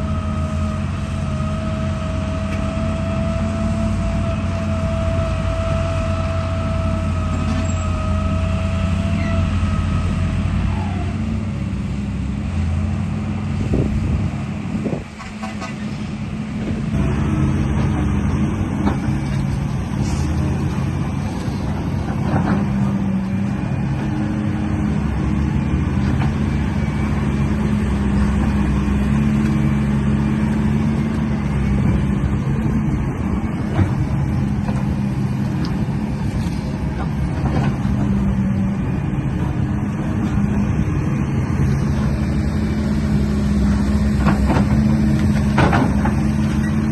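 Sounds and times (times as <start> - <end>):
vehicle engine humming: 0.0 - 46.9.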